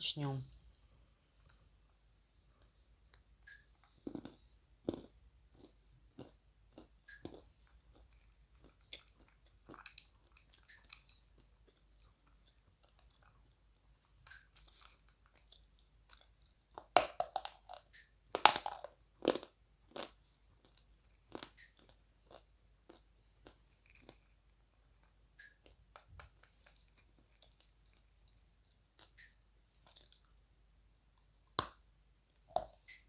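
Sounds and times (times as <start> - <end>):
person chewing dry clay: 2.6 - 30.4.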